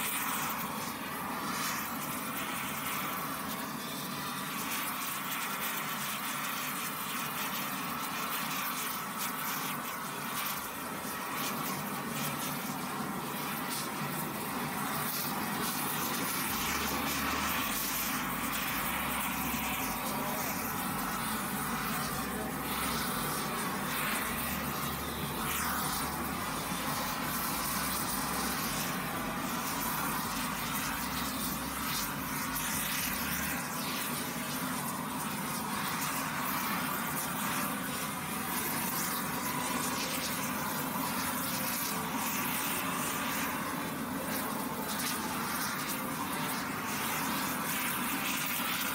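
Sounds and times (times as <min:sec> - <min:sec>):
torch flames hissing: 0:00.0 - 0:48.9.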